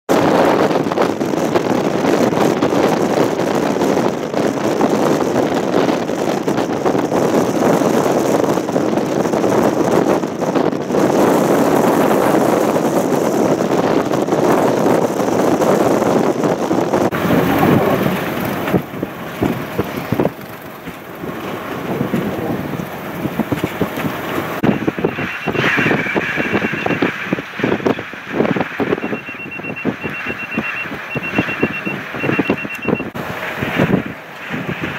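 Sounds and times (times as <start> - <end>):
wind buffeting microphone: 0.1 - 34.9.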